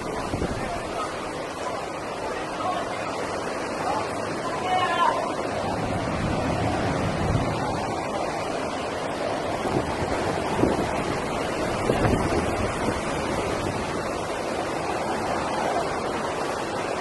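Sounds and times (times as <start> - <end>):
rough sea surf: 0.0 - 17.0
wind gusting against microphone: 0.0 - 17.0.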